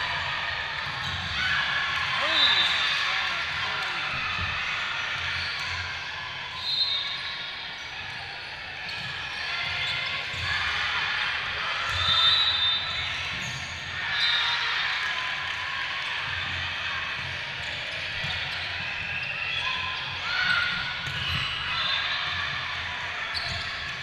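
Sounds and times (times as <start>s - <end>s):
people chattering in a hall: 0.0s - 24.0s.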